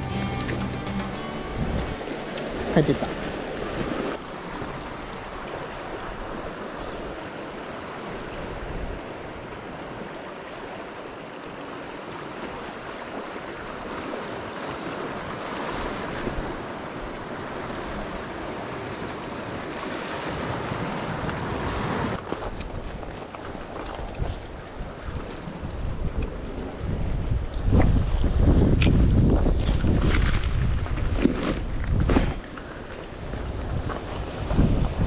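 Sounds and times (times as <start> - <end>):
wind on microphone: 1.4 - 7.3, 8.0 - 9.8, 13.8 - 35.0
water lapping against rocks: 2.3 - 35.0.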